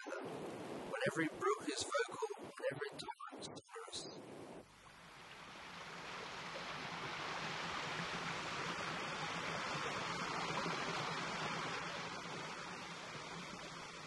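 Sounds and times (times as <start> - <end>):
stream water rushing over rocks: 0.0 - 14.0.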